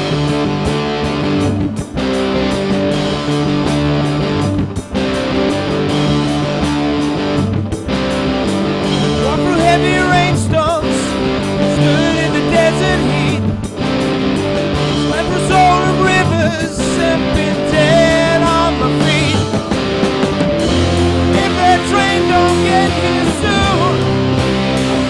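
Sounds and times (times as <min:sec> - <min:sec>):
lead guitar melody bending: 0:00.0 - 0:25.0
rock band playing: 0:00.0 - 0:25.0.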